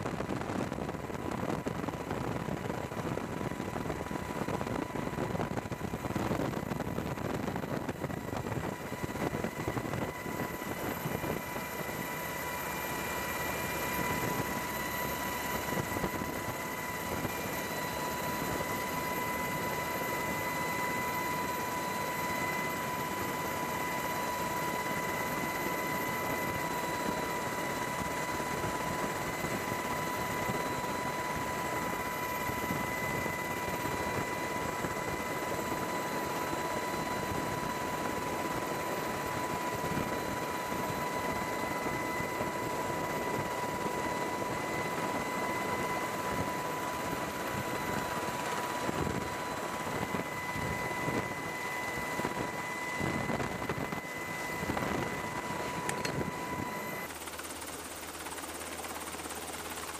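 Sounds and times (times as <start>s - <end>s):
high whine: 0.0s - 57.2s
helicopter rotor and engine drone: 0.0s - 59.9s.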